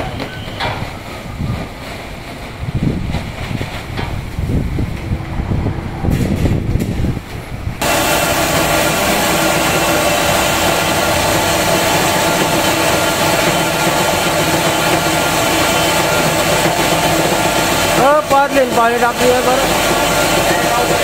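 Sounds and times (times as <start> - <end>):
washing machine running: 0.0 - 21.0.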